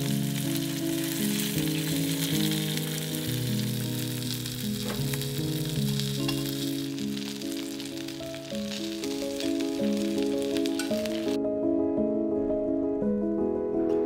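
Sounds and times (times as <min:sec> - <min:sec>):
fish sizzling in frying pan: 0:00.0 - 0:11.4
soft background music: 0:00.0 - 0:14.0.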